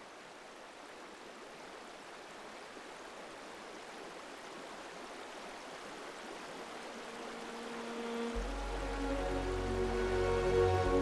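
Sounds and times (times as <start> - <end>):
river water running over stones: 0.0 - 11.0.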